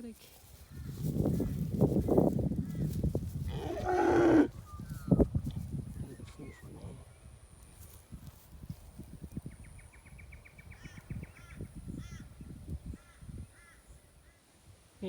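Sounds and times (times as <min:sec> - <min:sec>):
wind buffeting microphone: 0:00.4 - 0:13.9.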